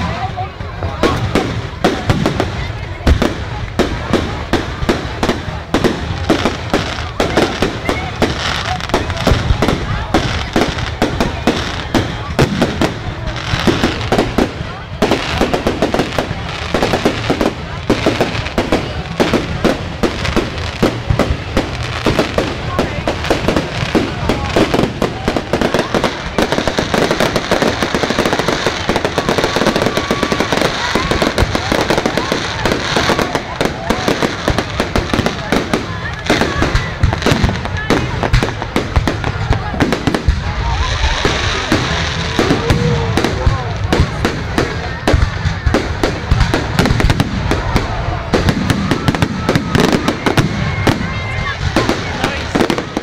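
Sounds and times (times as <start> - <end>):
fireworks exploding: 0.0 - 53.0.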